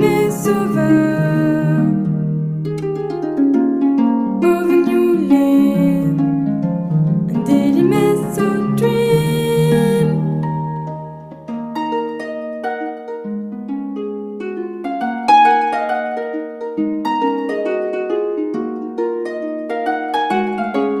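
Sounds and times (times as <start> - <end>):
gentle plucked melody: 0.0 - 21.0.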